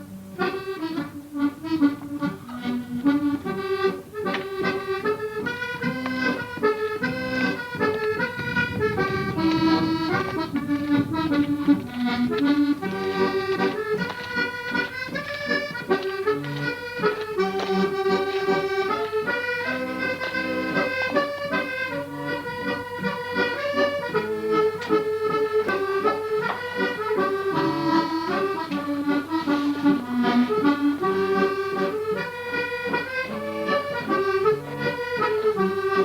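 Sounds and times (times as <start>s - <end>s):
accordion playing: 0.0s - 36.0s.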